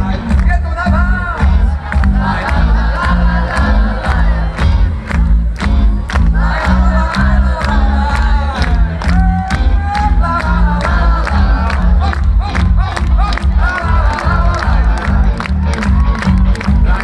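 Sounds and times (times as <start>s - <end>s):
crowd shouting and singing: 0.0s - 17.0s
live pop-rock band: 0.0s - 17.0s.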